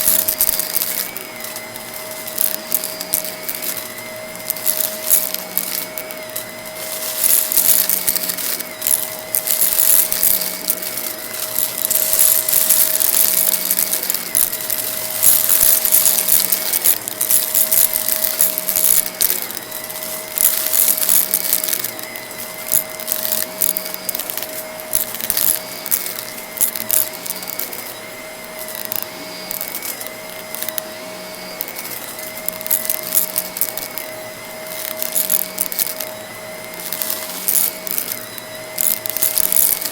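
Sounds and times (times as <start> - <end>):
debris crackling in vacuum: 0.0 - 39.9
vacuum cleaner running: 0.0 - 39.9.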